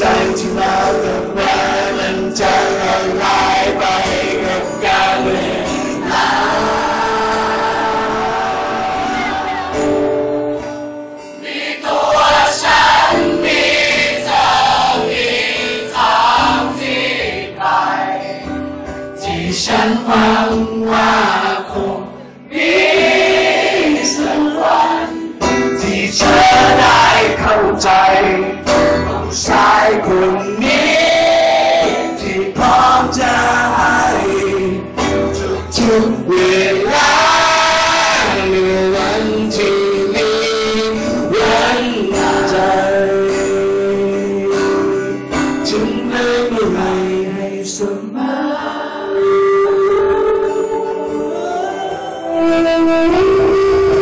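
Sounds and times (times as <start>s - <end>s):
crowd singing together: 0.0s - 53.2s
strummed acoustic guitar: 0.0s - 54.0s.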